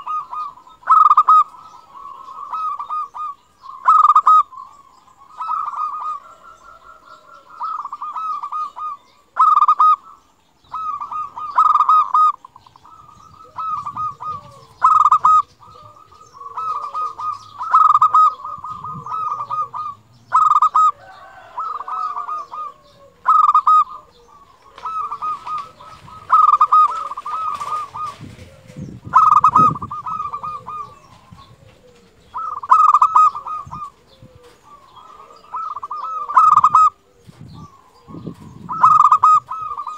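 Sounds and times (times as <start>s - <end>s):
dove trilled cooing: 0.0s - 39.9s.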